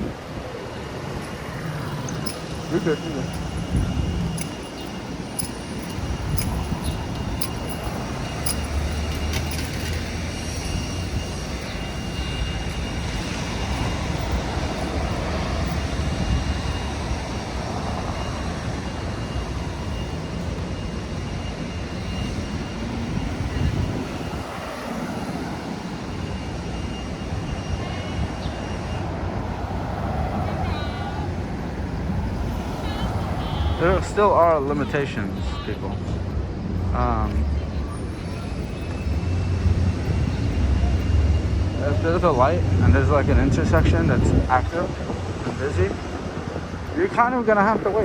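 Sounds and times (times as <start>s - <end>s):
thin high whine: 0.0s - 44.9s
city traffic noise: 0.0s - 48.0s
wind rushing over microphone: 0.0s - 48.0s.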